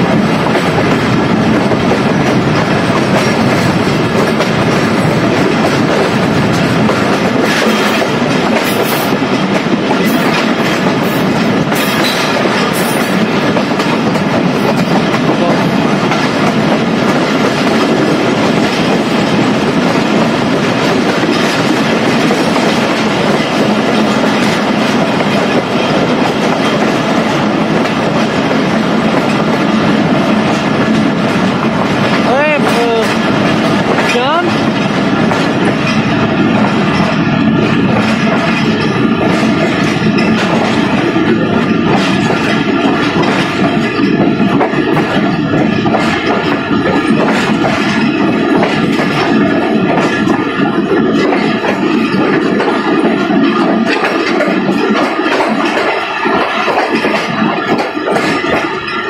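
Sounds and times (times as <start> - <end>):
sharp rail clicks: 0.0 - 59.0
train wheels rushing on rails: 0.0 - 59.0.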